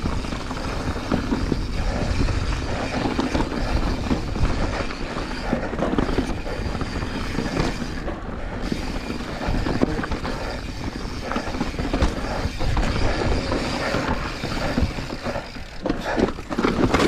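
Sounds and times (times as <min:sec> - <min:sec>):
bike rattling: 0:00.0 - 0:17.0
wind rumble on microphone: 0:00.0 - 0:17.0.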